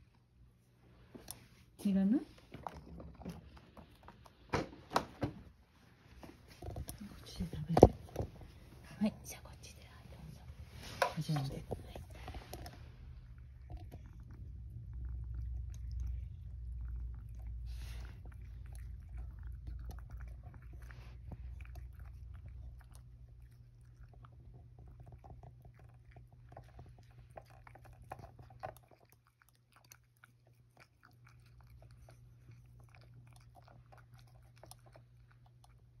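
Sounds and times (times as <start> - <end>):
cat chewing and crunching: 0.0 - 5.1, 6.0 - 36.0
steady low hum: 0.0 - 36.0.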